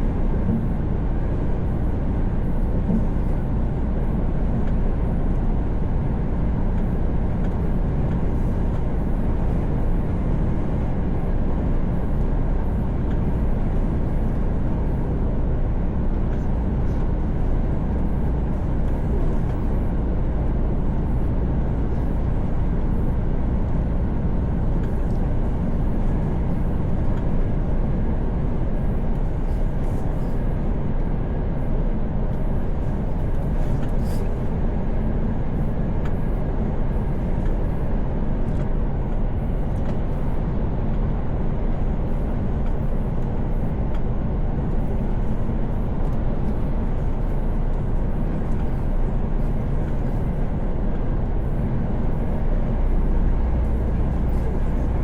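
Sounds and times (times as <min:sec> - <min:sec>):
road and tyre noise: 0:00.0 - 0:55.0
truck engine drone: 0:00.0 - 0:55.0.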